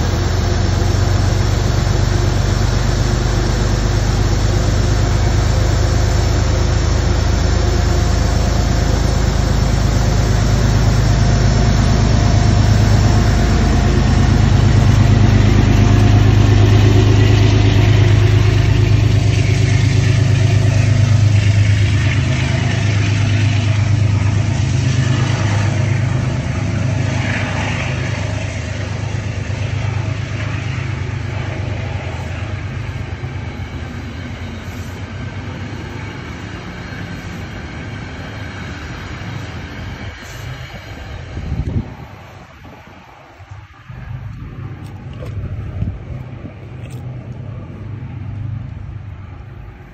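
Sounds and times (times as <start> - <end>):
diesel locomotive engine humming: 0.0 - 49.9
passenger coaches rolling by: 0.0 - 49.9.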